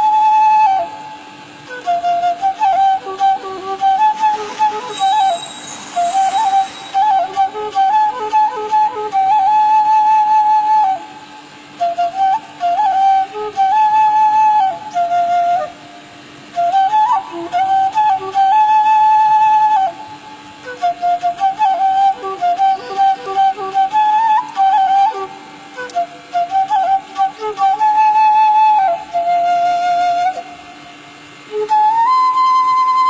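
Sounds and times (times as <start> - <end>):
bamboo flute melody: 0.0 - 33.0.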